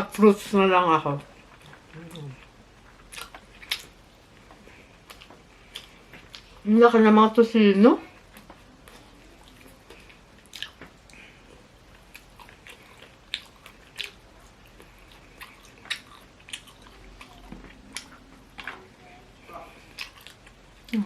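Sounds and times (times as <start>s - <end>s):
person chewing food: 1.3s - 6.7s, 8.1s - 21.0s.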